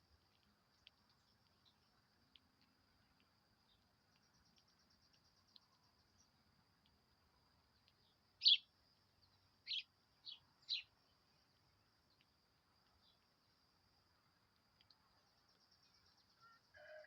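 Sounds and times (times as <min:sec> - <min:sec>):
faint high-pitched hum: 0:00.0 - 0:17.0.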